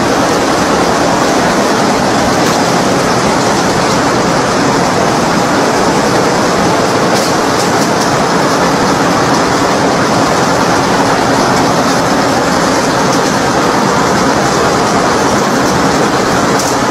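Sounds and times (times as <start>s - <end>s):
loud steady machine noise: 0.0s - 16.9s.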